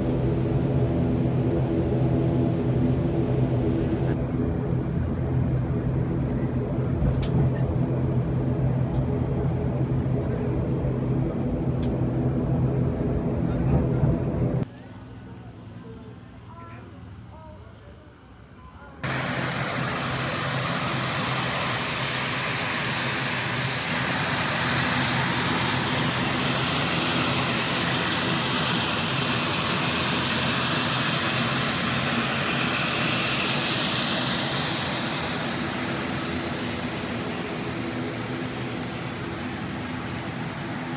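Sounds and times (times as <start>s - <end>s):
turboprop engines droning: 0.0s - 40.9s.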